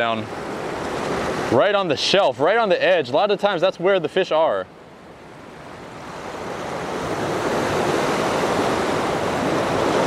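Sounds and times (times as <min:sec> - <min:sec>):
surf against rocks: 0:00.0 - 0:10.0.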